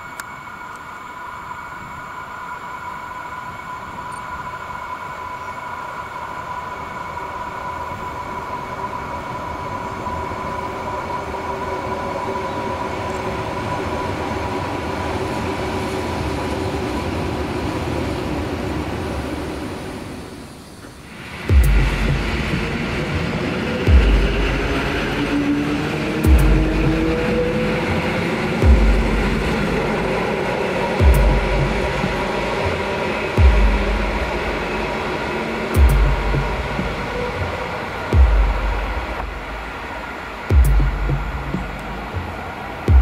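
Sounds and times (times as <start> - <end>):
high whine: 0.0 - 17.1, 19.9 - 43.0
train wheels rumbling on rail: 3.3 - 43.0.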